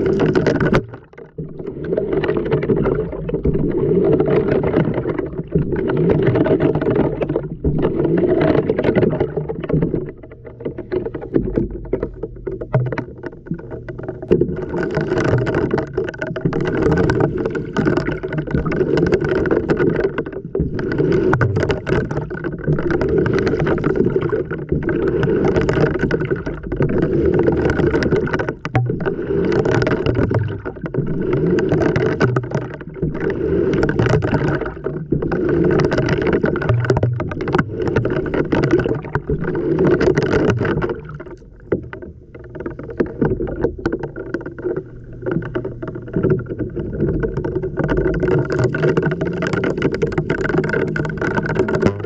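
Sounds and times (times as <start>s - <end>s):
water and laundry sloshing: 0.0s - 52.0s.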